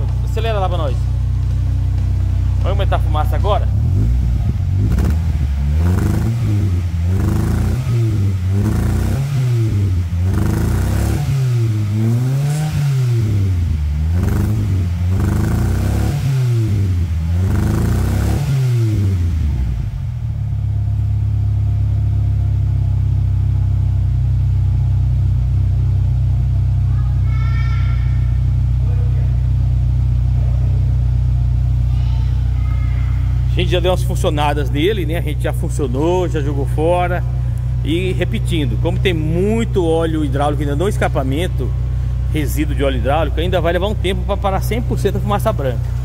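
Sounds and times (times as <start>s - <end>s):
car engine revving and idling: 0.0s - 27.3s, 28.1s - 46.0s.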